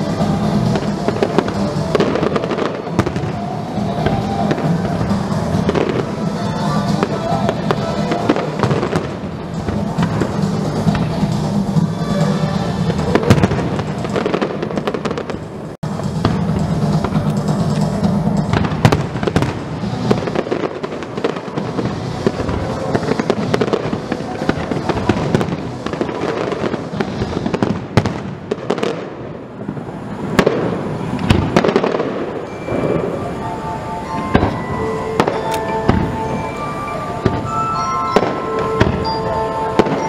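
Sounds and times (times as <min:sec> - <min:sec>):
music playing: 0:00.0 - 0:28.1, 0:29.7 - 0:40.0.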